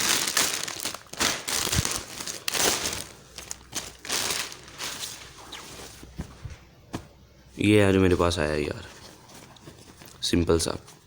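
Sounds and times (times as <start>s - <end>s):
packaging crinkling and rustling: 0.0s - 6.5s, 8.2s - 11.0s.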